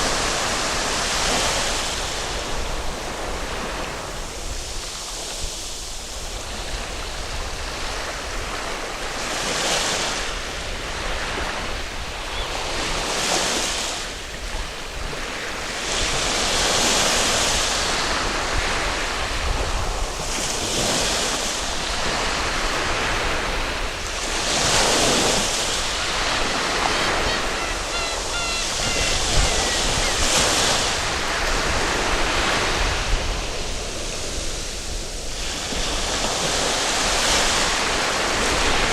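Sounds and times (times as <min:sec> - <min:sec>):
waves breaking on beach: 0:00.0 - 0:38.9
wind rumbling on microphone: 0:00.0 - 0:38.9.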